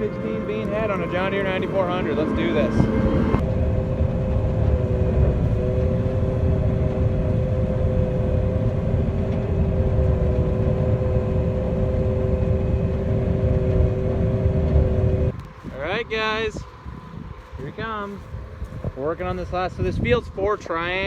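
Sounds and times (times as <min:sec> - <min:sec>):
combine engine rumble: 0:00.0 - 0:21.0
two-note whine: 0:00.0 - 0:21.0.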